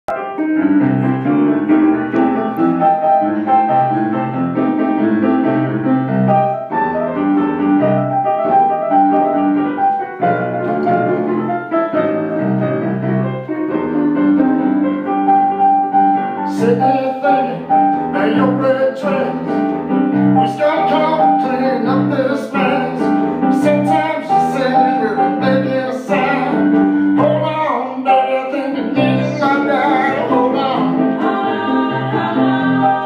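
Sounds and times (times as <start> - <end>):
rhythm and blues piano chords: 0.1 - 33.0.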